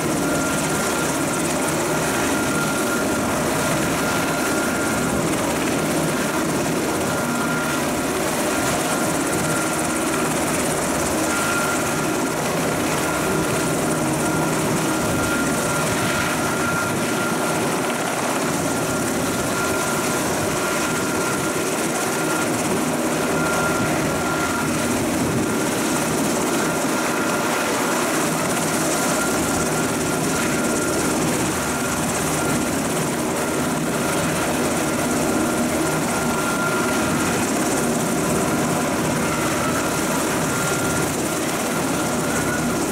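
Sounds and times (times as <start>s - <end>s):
helicopter rotor and turbine: 0.0s - 42.9s.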